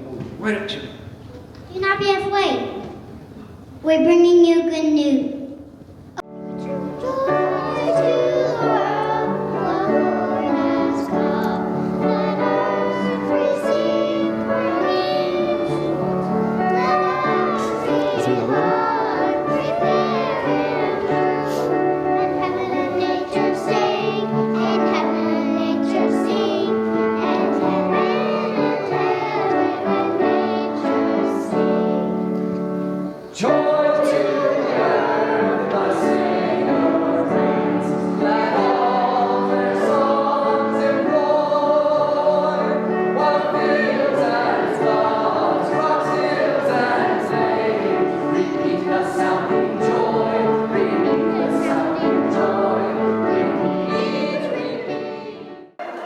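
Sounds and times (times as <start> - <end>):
instrumental accompaniment: 5.9 - 56.0
children's choir singing: 6.2 - 56.0.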